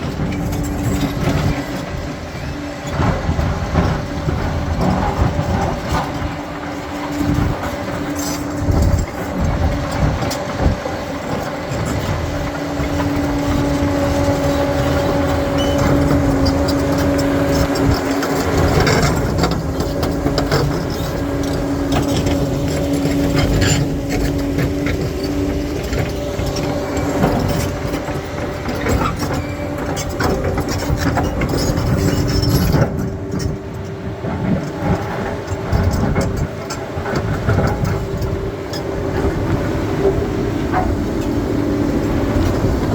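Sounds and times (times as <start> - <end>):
bulldozer diesel engine droning: 0.0 - 42.9
steel tracks clattering: 0.0 - 42.9.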